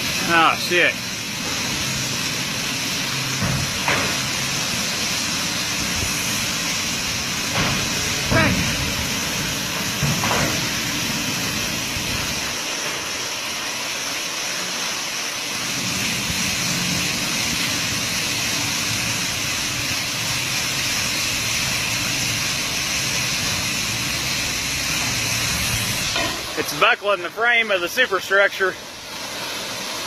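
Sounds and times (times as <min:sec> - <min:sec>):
steady hissing noise: 0:00.0 - 0:30.0.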